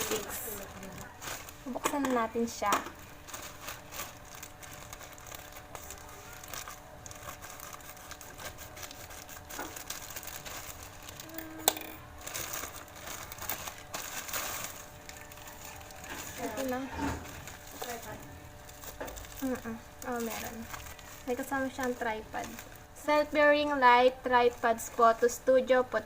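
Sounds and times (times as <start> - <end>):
plastic packaging crinkling and tearing: 0.0 - 26.0.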